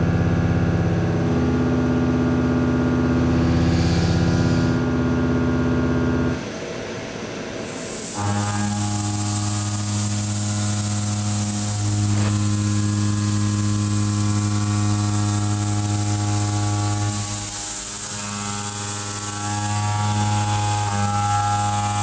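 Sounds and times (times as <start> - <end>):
milling machine hum: 0.0 - 22.0.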